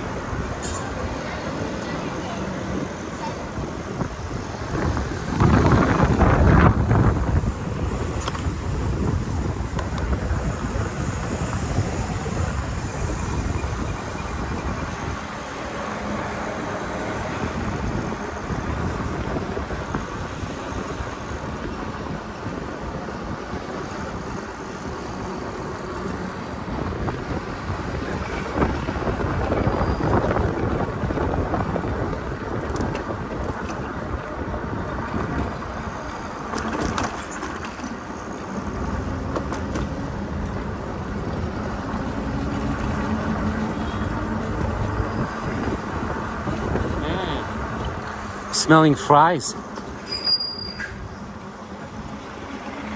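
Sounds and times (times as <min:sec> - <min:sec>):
wind buffeting microphone: 0:00.0 - 0:48.5.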